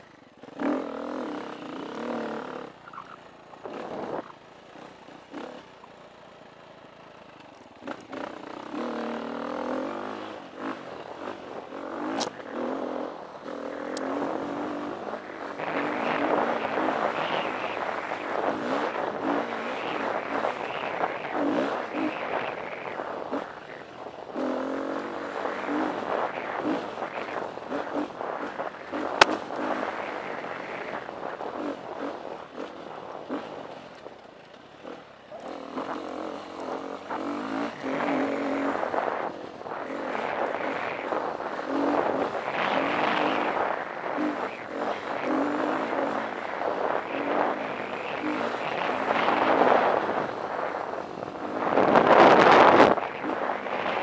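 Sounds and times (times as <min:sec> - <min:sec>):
dirt bike engine revving: 0:00.0 - 0:05.8, 0:07.7 - 0:54.0.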